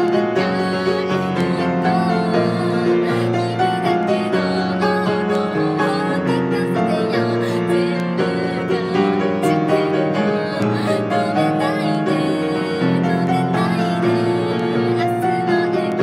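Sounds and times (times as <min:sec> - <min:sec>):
grand piano playing: 0:00.0 - 0:16.0.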